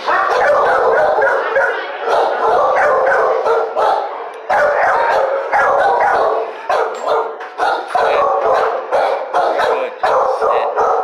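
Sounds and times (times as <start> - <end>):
many dogs barking: 0.0 - 11.0.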